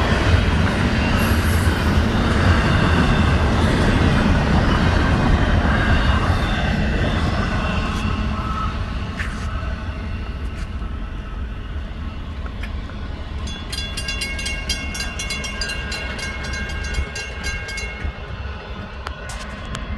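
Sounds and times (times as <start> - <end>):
train rumbling past: 0.0 - 19.9
wheels ringing and clicking on rails: 0.0 - 19.9.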